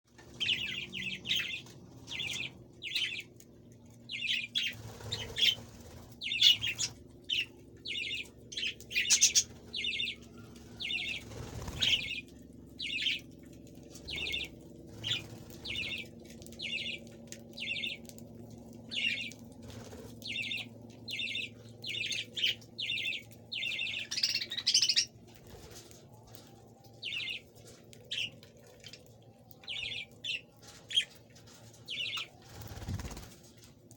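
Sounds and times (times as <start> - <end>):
birds chirping: 0.2 - 19.6, 20.2 - 33.3.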